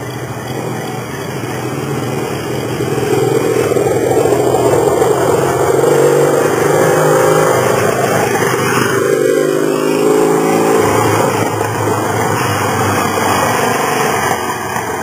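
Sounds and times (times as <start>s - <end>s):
motorcycle engine approaching: 0.0s - 15.0s.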